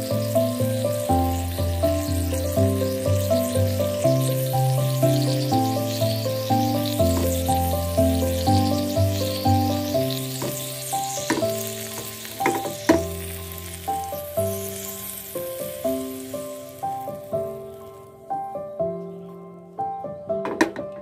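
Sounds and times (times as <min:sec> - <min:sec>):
chicken sizzling in a frying pan: 0:00.0 - 0:18.7
plucked background music: 0:00.0 - 0:21.0.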